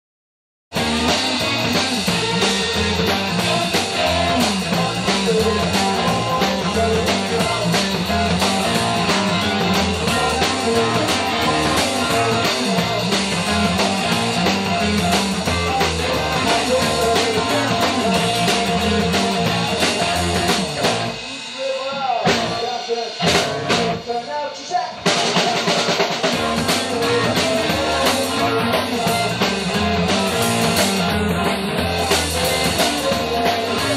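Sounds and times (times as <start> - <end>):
rock music with drums and guitar: 0.7 - 33.9.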